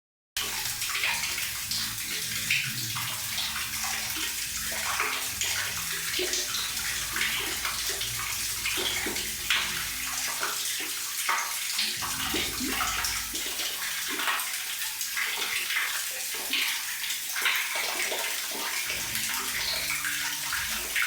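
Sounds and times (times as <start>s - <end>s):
water running and splashing: 0.4s - 21.0s.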